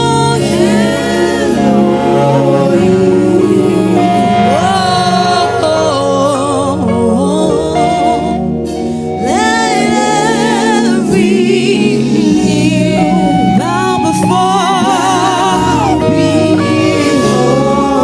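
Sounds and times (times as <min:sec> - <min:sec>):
keyboard chords and bass: 0:00.0 - 0:18.0
person singing with vibrato: 0:00.0 - 0:18.0.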